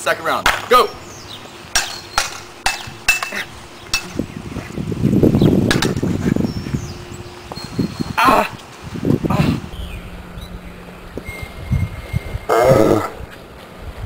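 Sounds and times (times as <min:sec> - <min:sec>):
low rumbling noise: 0:00.8 - 0:14.0.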